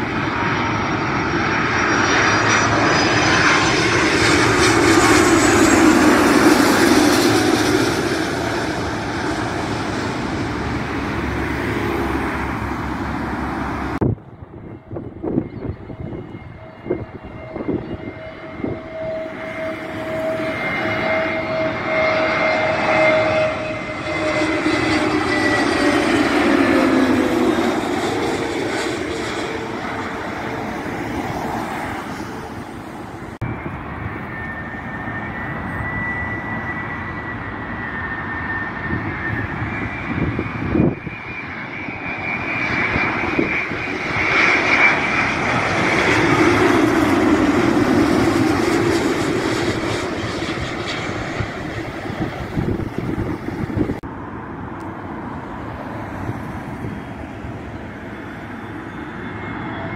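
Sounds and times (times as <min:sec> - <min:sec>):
jet engines passing overhead: 0:00.0 - 0:59.9.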